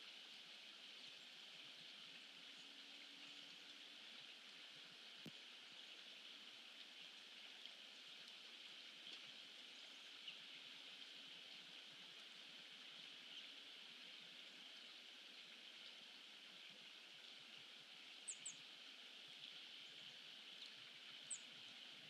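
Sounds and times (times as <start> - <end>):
outdoor ambient hiss: 0.0 - 22.0.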